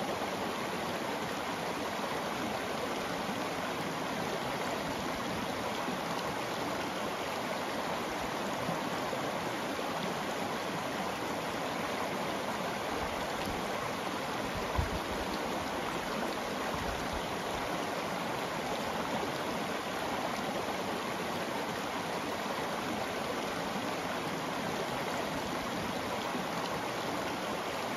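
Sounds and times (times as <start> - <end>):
river water rushing over stones: 0.0 - 27.9.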